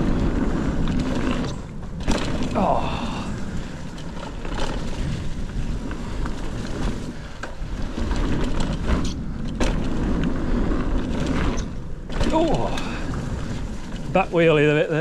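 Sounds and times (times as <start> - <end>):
bike rattles and knocks: 0.0 - 15.0
bike tyre noise on dirt: 0.0 - 15.0
wind rumbling on microphone: 0.0 - 15.0.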